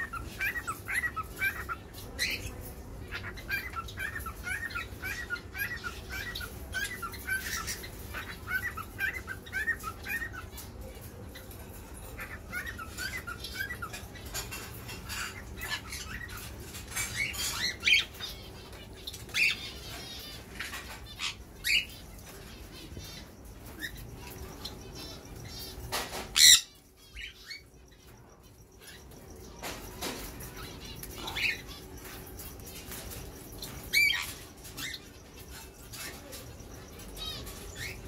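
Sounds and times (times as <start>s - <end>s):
cockatiels chirping and squawking: 0.0s - 38.0s.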